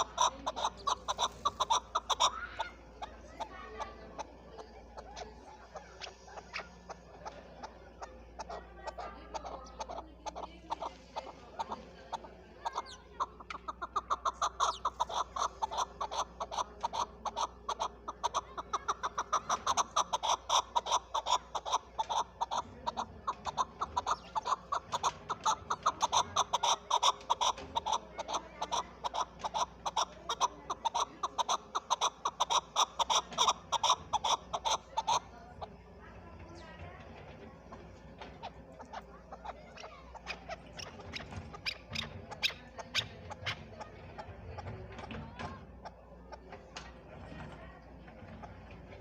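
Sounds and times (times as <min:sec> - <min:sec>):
partridge chuck calls: 0:00.0 - 0:49.0.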